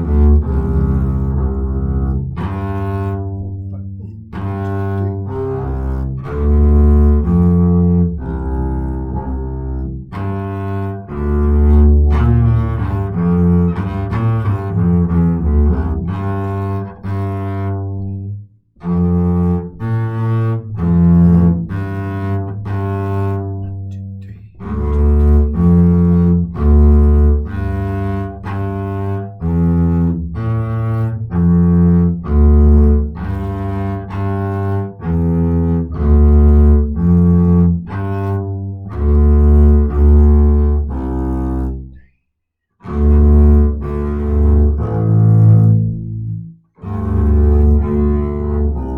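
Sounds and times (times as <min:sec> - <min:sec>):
bowed double bass: 0:00.0 - 0:42.2, 0:42.8 - 0:48.9.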